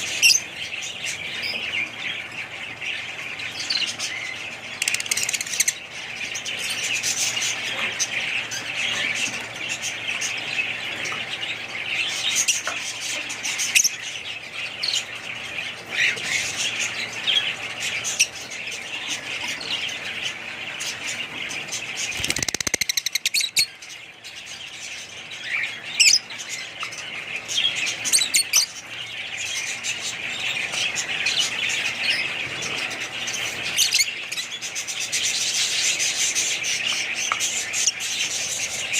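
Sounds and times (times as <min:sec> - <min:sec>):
small birds chirping and squawking: 0:00.0 - 0:38.9.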